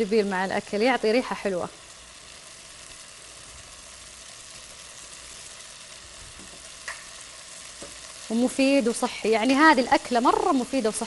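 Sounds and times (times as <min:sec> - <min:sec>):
chicken sizzling in pot: 0:00.0 - 0:11.0.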